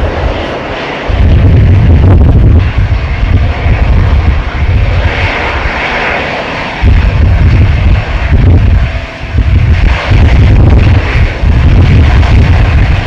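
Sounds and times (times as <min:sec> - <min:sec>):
heavy low rumble: 0:00.0 - 0:13.0
jet engines rushing: 0:00.0 - 0:13.0.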